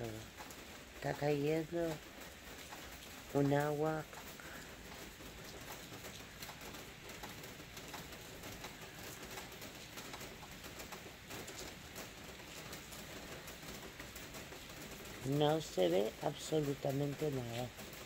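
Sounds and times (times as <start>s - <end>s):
heavy rain on street: 0.0s - 18.0s.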